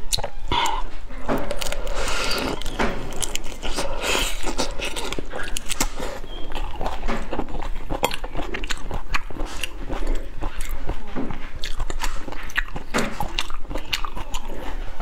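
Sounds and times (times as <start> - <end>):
chewing prawn with wet crackles: 1.4 - 15.0.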